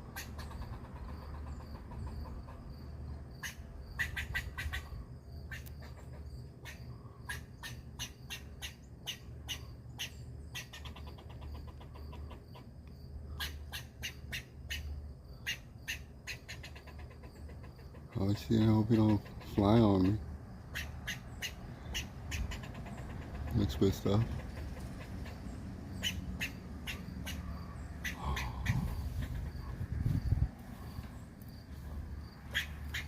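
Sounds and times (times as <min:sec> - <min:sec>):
bird giving sharp calls: 0:00.0 - 0:02.7, 0:03.3 - 0:12.7, 0:13.3 - 0:31.0, 0:32.3 - 0:33.0.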